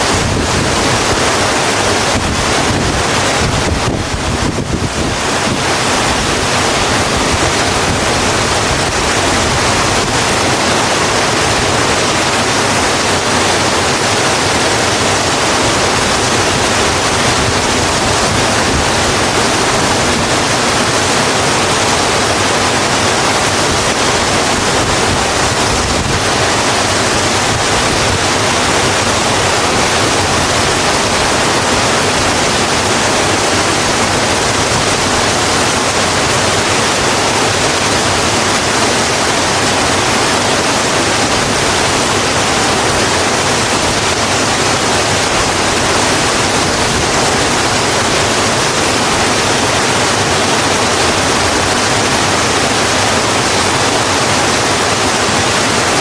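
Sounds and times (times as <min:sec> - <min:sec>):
rain falling on a road: 0:00.1 - 0:56.0.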